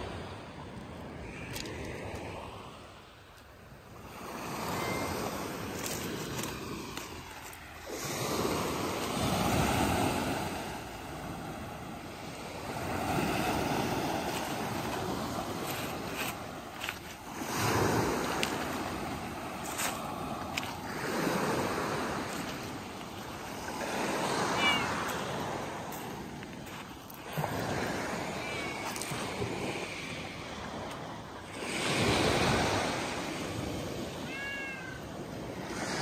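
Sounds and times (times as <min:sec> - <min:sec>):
waves washing on pebble beach: 0:00.0 - 0:36.0.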